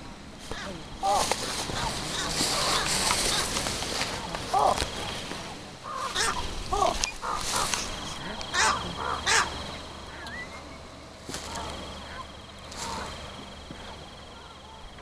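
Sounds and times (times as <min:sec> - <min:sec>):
birds harsh caw-like squawks: 0:00.4 - 0:05.2, 0:05.8 - 0:15.0.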